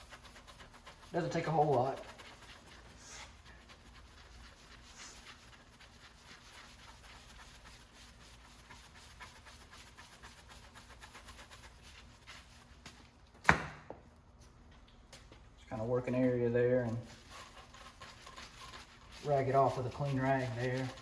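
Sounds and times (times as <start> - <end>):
polishing pad scrubbing: 0.0 - 13.0, 16.8 - 21.0.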